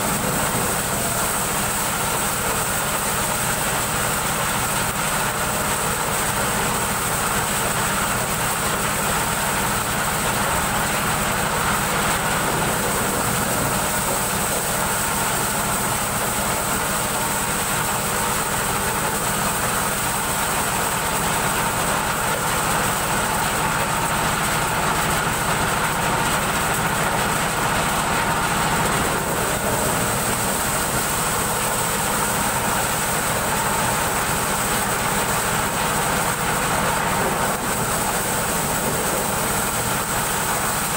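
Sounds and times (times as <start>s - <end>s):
corn sheller engine din: 0.0s - 40.9s.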